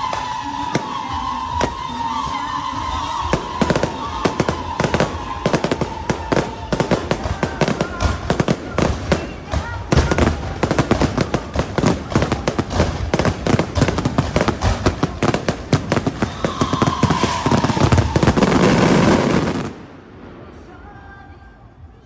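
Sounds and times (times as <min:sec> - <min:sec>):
fireworks crackling: 0:00.0 - 0:21.5.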